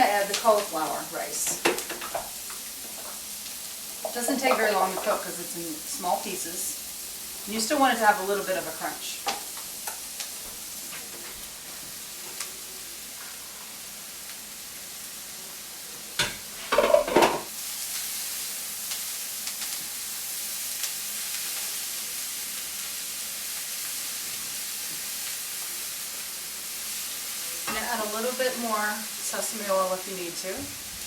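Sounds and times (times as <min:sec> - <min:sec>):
vegetables sizzling in a wok: 0:00.0 - 0:31.0.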